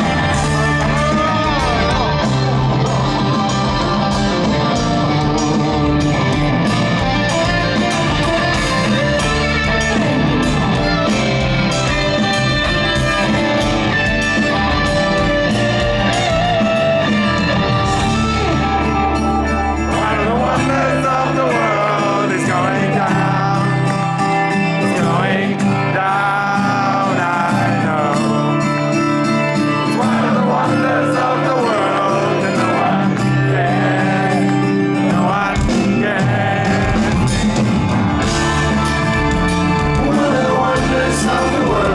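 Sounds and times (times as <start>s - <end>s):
electric guitar: 0.0s - 41.9s
live rock band playing: 0.0s - 41.9s.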